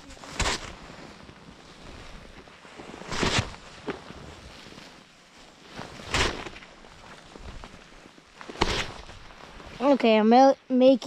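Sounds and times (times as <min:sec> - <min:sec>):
crunching swishes of snow: 0:00.0 - 0:10.3.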